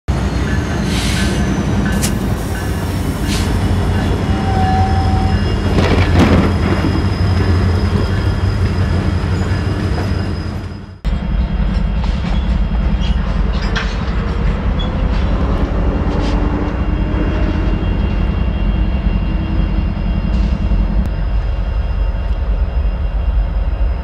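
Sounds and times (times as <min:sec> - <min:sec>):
diesel locomotive running: 0:00.1 - 0:24.0
freight train rumbling: 0:00.1 - 0:24.0
high wheel squeal: 0:00.3 - 0:11.0, 0:14.7 - 0:24.0.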